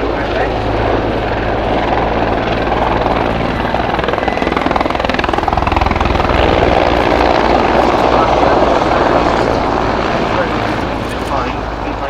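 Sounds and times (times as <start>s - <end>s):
helicopter engine whine: 0.0s - 12.0s
helicopter rotor beat: 0.0s - 12.0s.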